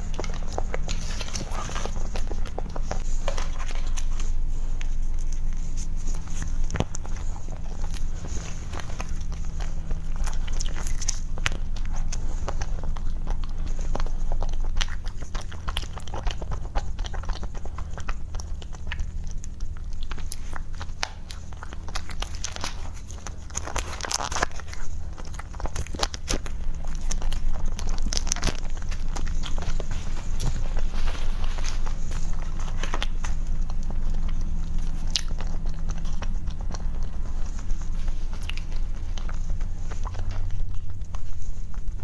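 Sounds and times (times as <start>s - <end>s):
person chewing cake: 0.0s - 42.0s
steady low hum: 0.0s - 42.0s.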